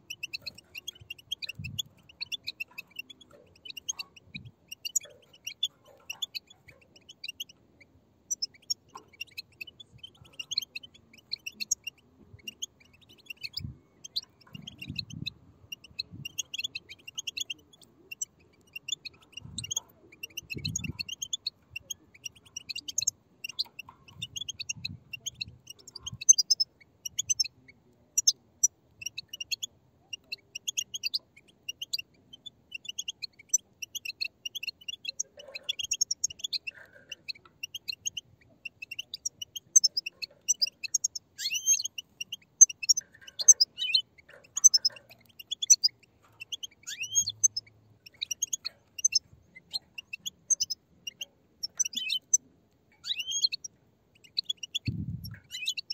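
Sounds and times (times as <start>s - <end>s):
bird chicks chirping: 0.0s - 55.9s.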